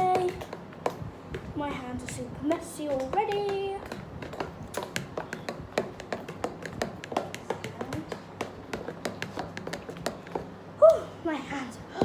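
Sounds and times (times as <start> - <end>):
fork tapping mixing bowl: 0.0 - 10.5.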